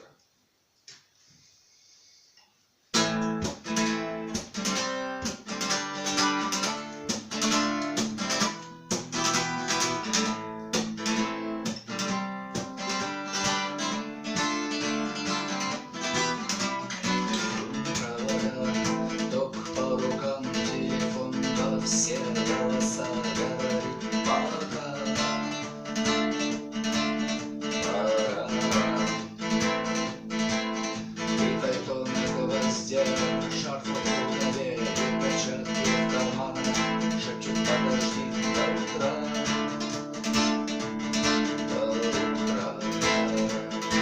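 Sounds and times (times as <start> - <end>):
acoustic guitar strumming: 2.9 - 44.0.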